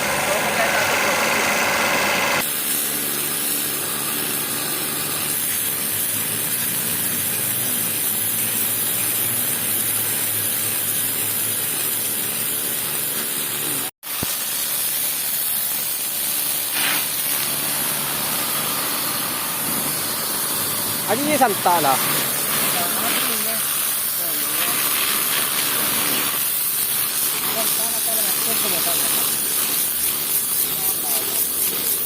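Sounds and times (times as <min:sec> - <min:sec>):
pressure washer spraying: 0:00.0 - 0:32.0.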